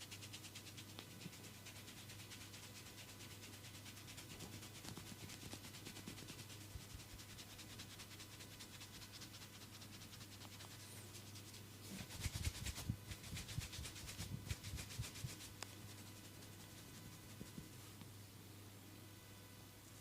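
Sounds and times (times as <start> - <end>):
hands rubbing skin: 0.1 - 18.0.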